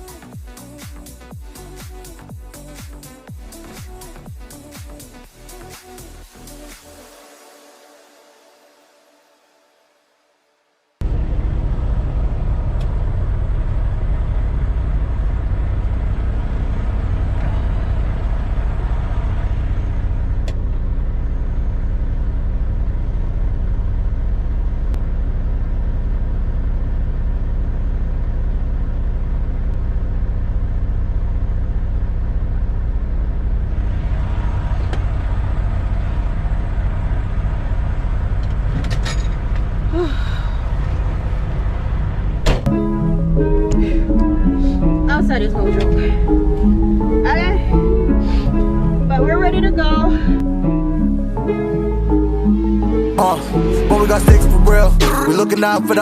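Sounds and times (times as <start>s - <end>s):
truck diesel engine rumbling: 11.0s - 56.0s.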